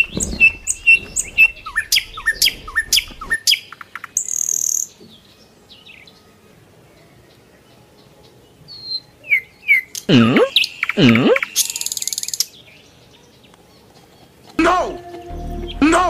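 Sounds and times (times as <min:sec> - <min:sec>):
small birds chirping: 0:00.0 - 0:14.6.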